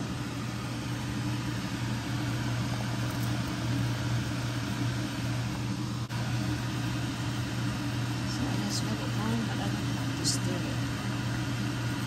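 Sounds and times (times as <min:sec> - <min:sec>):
fan motor humming: 0:00.0 - 0:12.0.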